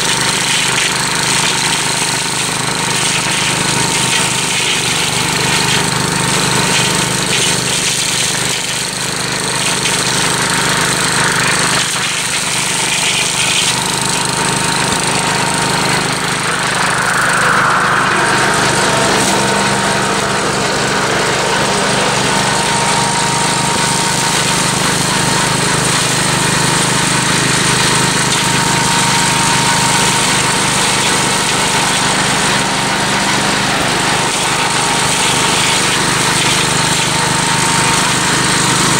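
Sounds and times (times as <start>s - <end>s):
mower cutting through brush: 0.0s - 38.9s
walk-behind tractor engine running: 0.0s - 38.9s.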